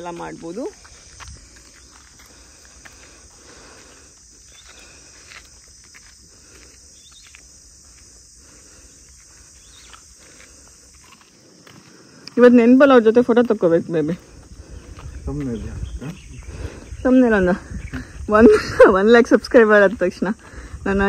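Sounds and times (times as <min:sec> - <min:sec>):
faint ticks and scuffs: 0:00.0 - 0:21.0
insects chorus humming: 0:00.0 - 0:21.0.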